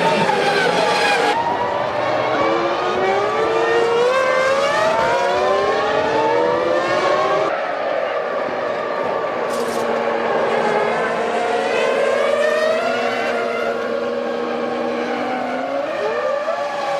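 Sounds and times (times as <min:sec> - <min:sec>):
racing car engines accelerating: 0:00.0 - 0:16.9.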